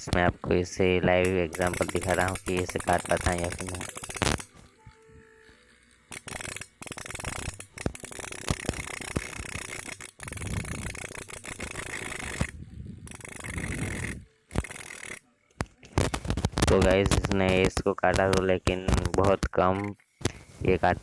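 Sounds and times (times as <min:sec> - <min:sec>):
grinder scraping iron: 0:00.0 - 0:21.0.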